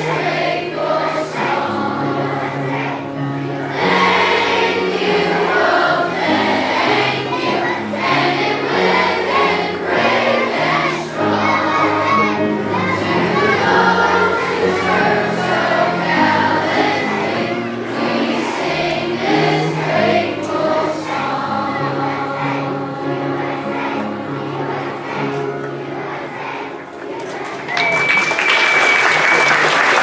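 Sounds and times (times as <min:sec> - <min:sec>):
instrumental accompaniment: 0:00.0 - 0:27.8
children's choir singing: 0:00.0 - 0:30.0.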